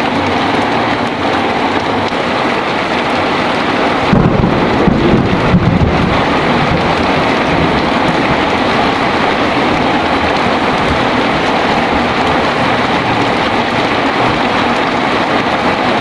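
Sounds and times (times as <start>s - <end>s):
heavy rain: 0.0s - 16.0s
thunder rumbling: 2.3s - 16.0s.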